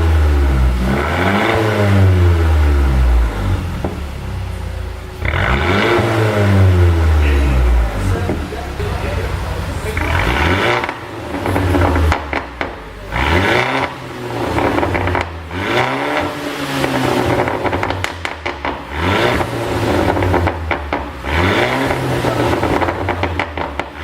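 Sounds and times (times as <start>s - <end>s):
car engine revving: 0.0s - 24.0s
exhaust pops and crackles: 0.0s - 24.0s.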